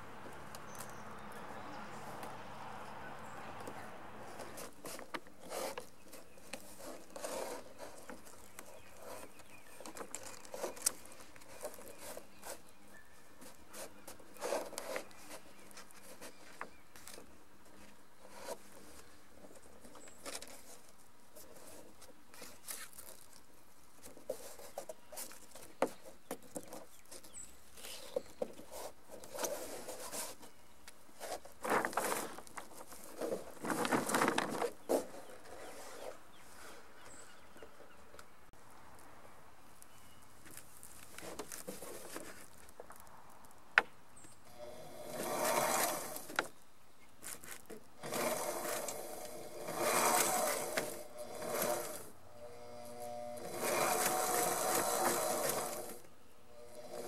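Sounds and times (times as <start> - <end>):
sail rustling and crinkling: 3.7 - 39.1, 39.7 - 57.0.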